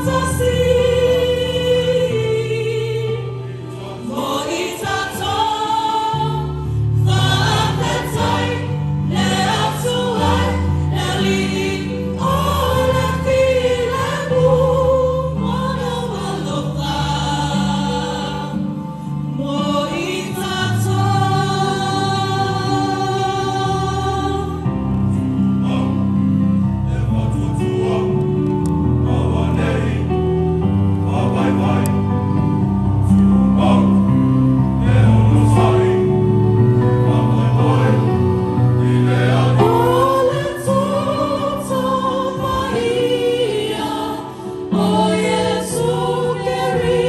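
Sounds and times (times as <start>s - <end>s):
choir singing a carol: 0.0s - 47.0s.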